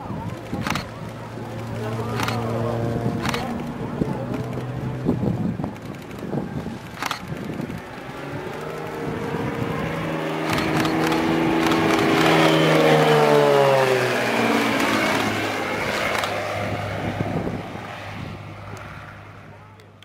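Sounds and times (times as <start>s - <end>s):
propeller plane droning: 0.0s - 20.0s.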